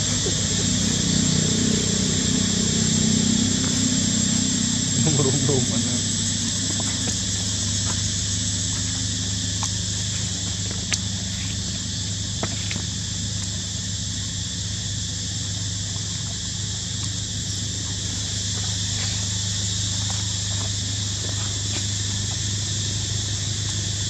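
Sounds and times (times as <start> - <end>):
insect chorus: 0.0 - 24.0
low steady hum: 0.0 - 24.0.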